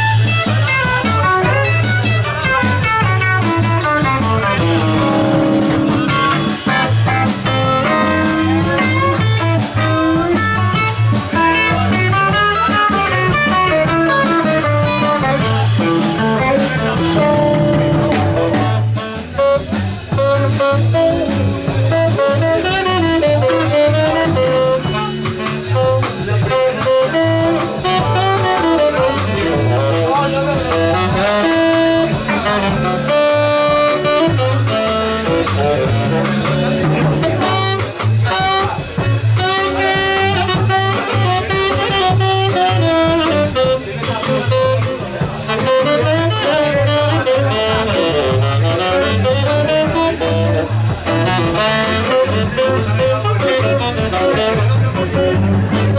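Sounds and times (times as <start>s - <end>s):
blues band playing: 0.0s - 55.9s
tenor saxophone melody: 0.0s - 55.9s.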